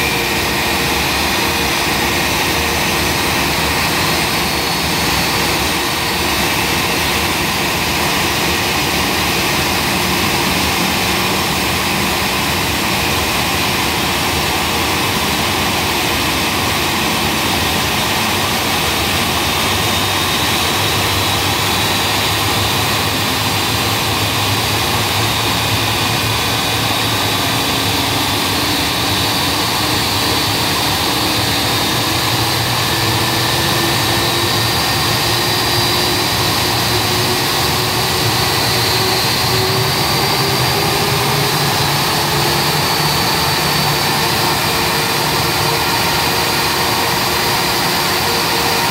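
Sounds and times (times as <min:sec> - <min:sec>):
jet engine starting with rising whine: 0:00.0 - 0:48.9.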